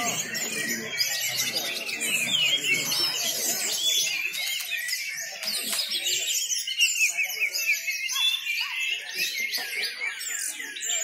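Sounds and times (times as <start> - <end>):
murmur of people talking: 0.0 - 11.0
songbirds singing: 0.0 - 11.0.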